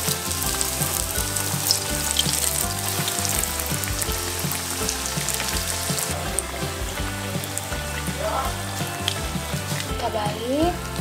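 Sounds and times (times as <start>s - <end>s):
background music: 0.0s - 11.0s
deep-frying sizzle with crackling: 0.0s - 11.0s.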